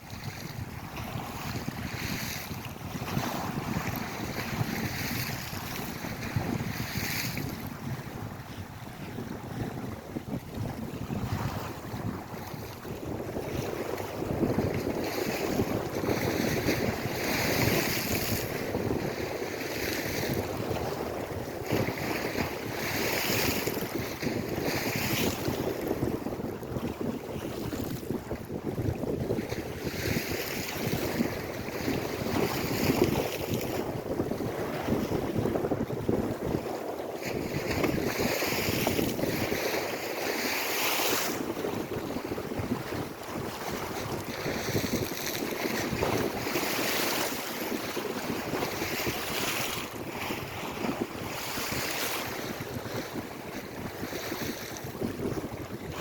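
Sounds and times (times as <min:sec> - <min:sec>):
waves washing in: 0:00.0 - 0:56.0
wind rumbling on microphone: 0:00.0 - 0:56.0.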